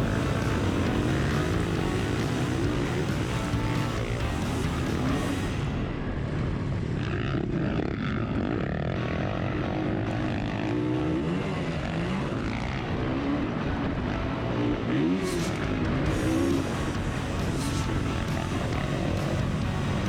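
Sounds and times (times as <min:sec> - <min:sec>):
motocross bike engine revving: 0:00.0 - 0:06.2, 0:06.8 - 0:20.0.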